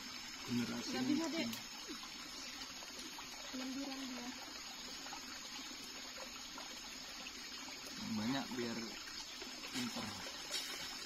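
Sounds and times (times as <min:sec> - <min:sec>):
running water trickling: 0:00.0 - 0:11.0.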